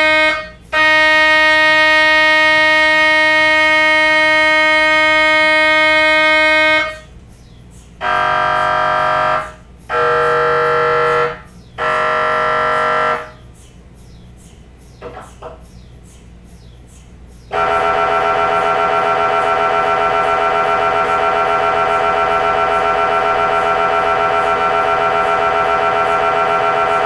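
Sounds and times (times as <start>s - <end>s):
mri scanner buzzing: 0.0s - 7.2s, 8.0s - 13.6s, 17.5s - 27.0s.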